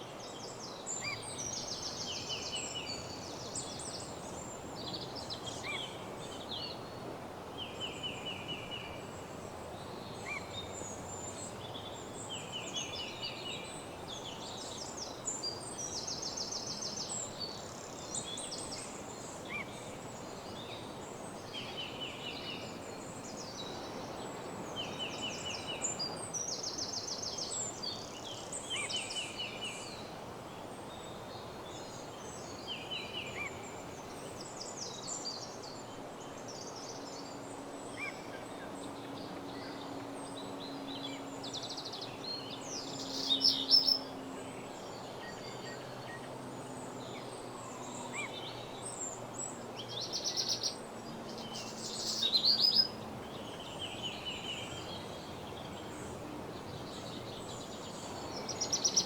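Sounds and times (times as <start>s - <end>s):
background hiss: 0.0s - 59.0s
songbirds singing: 0.0s - 59.0s.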